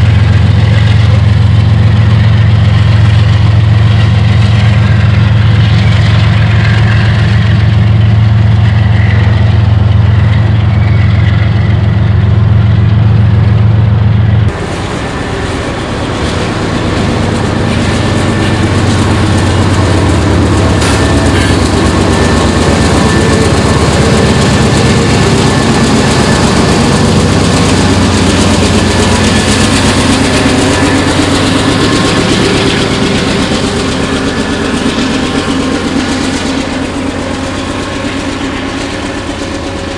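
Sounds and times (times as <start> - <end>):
diesel locomotive engine drone: 0.0 - 39.9
steel wheels on rails: 0.0 - 39.9.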